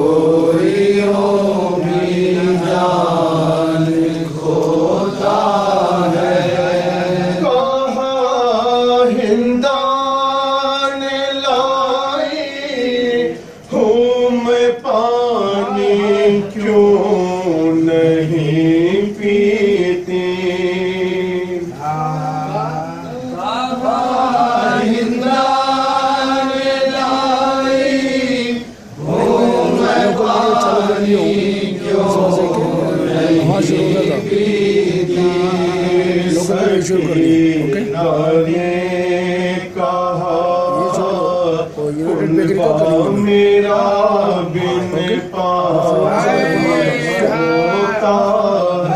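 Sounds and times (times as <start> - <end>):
men chanting a lament: 0.0 - 48.9.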